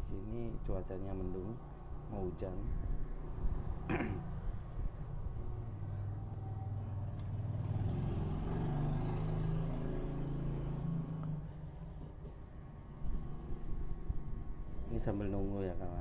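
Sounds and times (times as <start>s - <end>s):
passing vehicle engine rumble: 0.5s - 16.0s.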